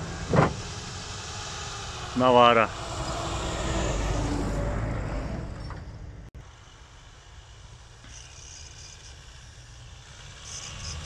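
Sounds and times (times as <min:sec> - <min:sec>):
distant engine hum: 0:00.0 - 0:11.0
pickup driving through deep snow: 0:00.0 - 0:11.0.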